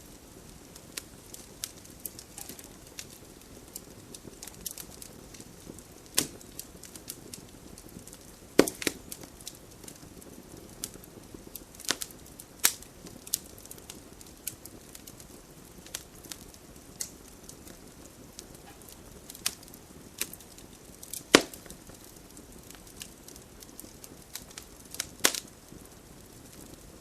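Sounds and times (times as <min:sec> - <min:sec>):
campfire crackling: 0:00.0 - 0:27.0
faint hiss: 0:00.0 - 0:27.0.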